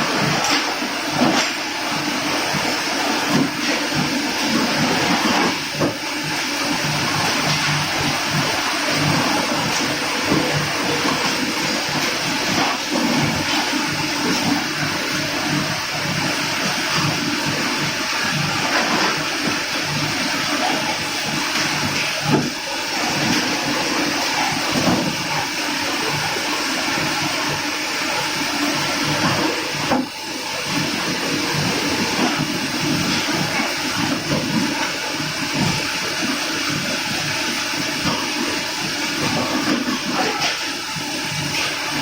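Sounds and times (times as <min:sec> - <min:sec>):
furnace plant rushing noise: 0:00.0 - 0:42.0.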